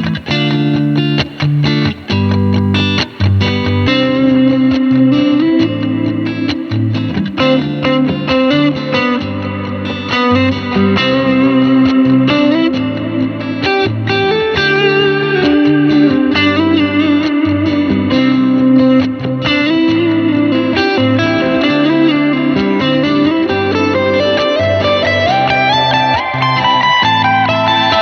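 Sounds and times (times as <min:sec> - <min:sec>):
electric guitar through amplifier: 0:00.0 - 0:28.0
rhythmic accompaniment: 0:00.0 - 0:28.0.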